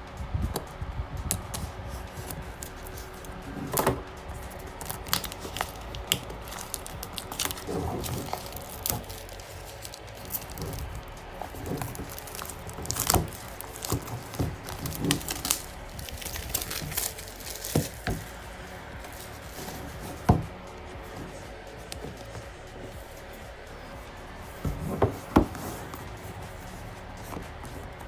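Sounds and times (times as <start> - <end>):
packaging crinkling and rustling: 1.3 - 23.9.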